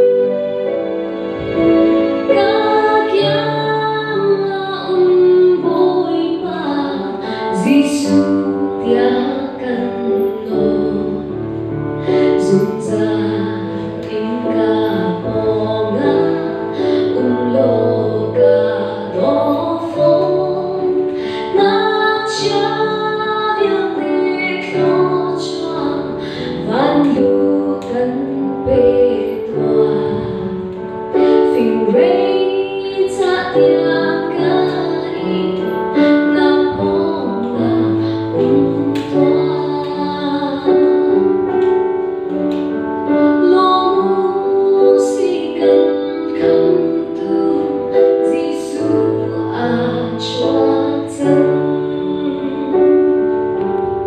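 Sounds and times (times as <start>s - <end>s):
instrumental accompaniment: 0.0s - 54.0s
woman singing into microphone: 2.3s - 54.0s.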